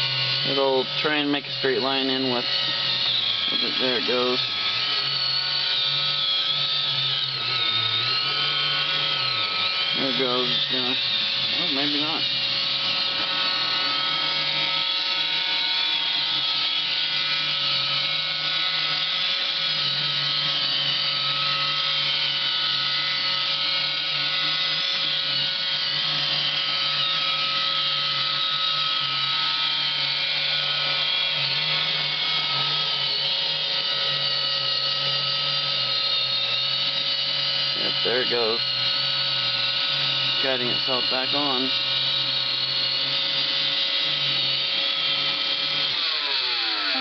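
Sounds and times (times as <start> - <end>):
robot vacuum whirring: 0.0 - 47.0.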